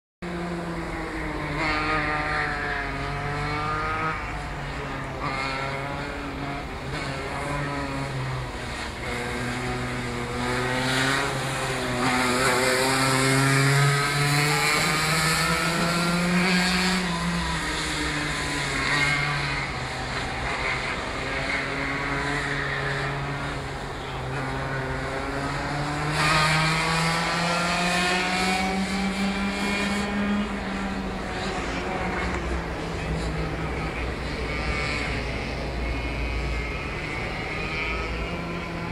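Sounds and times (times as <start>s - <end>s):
kart engine revving: 0.3s - 38.9s.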